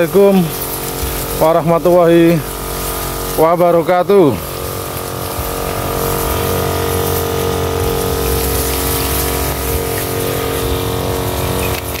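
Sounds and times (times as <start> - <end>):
liquid hissing from spray lance: 0.0 - 12.0
sprayer pump motor humming: 0.0 - 12.0.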